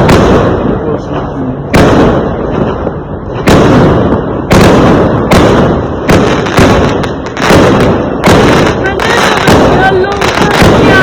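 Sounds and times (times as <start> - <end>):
fireworks bangs: 0.0 - 11.0
fireworks crackling rumble: 0.0 - 11.0.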